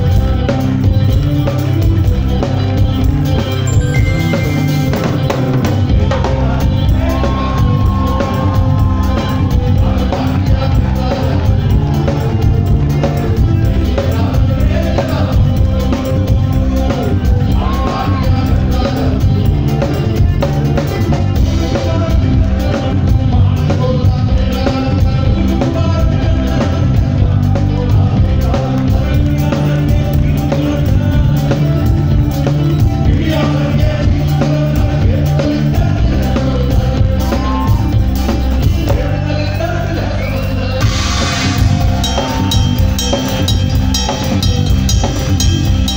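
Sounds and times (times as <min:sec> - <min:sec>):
bass guitar: 0:00.0 - 0:45.9
drum kit: 0:00.0 - 0:45.9
electric guitars: 0:00.0 - 0:45.9
person singing: 0:03.3 - 0:45.9.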